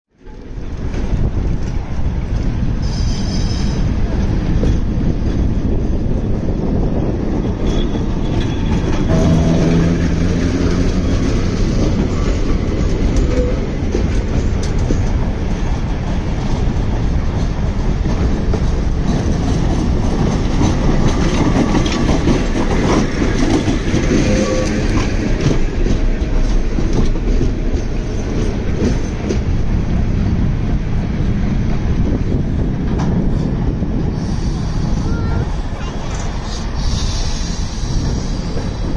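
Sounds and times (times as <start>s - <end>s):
tram wheels on rails: 0.1s - 38.9s.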